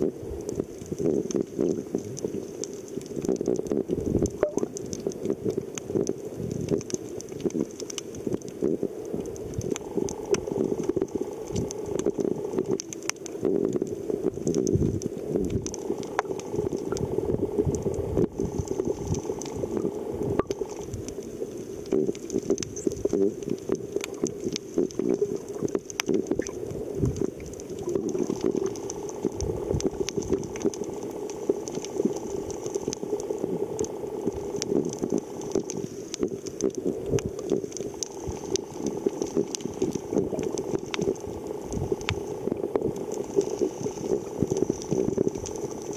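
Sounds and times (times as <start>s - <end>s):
muffled underwater water noise: 0.0s - 45.9s
small underwater clicks and pops: 0.4s - 45.9s.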